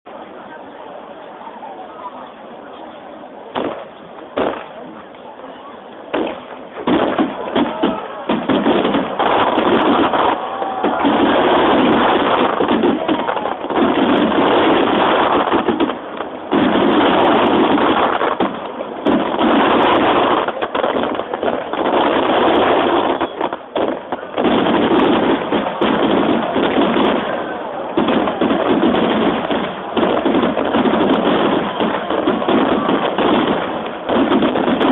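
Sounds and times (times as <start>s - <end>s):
fireworks bursting: 3.4s - 34.9s.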